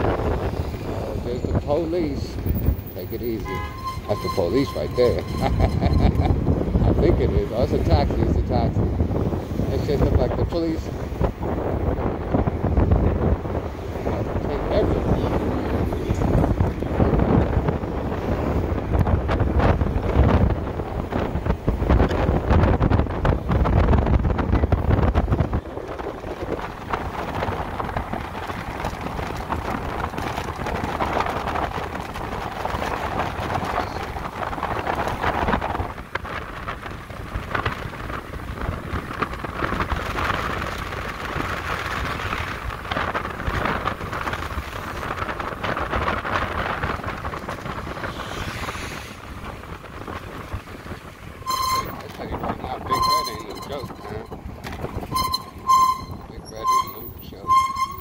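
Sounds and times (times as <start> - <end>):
low rumble of road and traffic: 0.0 - 58.0
wind buffeting microphone: 0.0 - 58.0.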